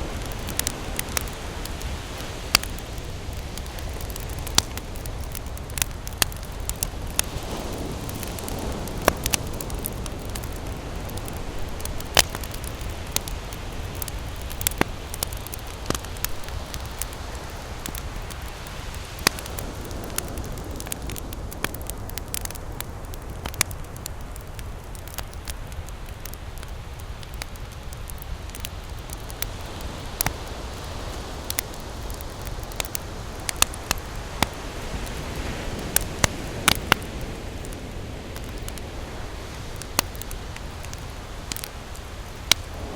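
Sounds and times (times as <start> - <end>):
flames hissing: 0.0 - 25.5, 26.2 - 42.9
burning logs crackling and popping: 0.0 - 42.9.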